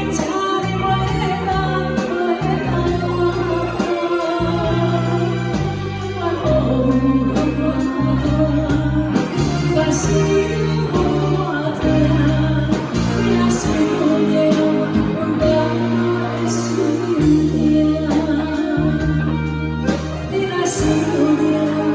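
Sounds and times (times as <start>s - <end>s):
bass line: 0.0s - 21.9s
guitar: 0.0s - 21.9s
pop song singing: 0.0s - 21.9s.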